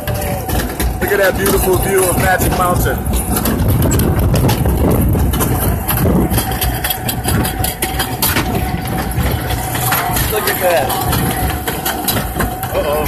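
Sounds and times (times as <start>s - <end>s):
conveyor belt rumble: 0.0s - 13.0s
rapid irregular clicking: 0.0s - 13.0s.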